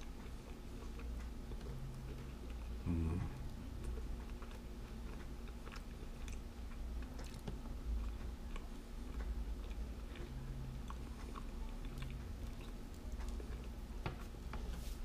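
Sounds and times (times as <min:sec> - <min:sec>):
person chewing: 0:00.0 - 0:13.8.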